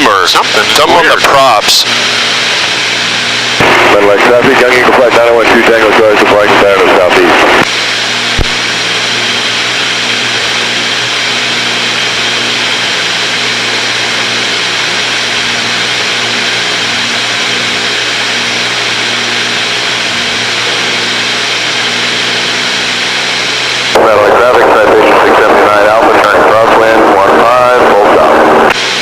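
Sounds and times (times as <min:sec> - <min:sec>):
propeller plane engines droning: 0:00.0 - 0:29.0.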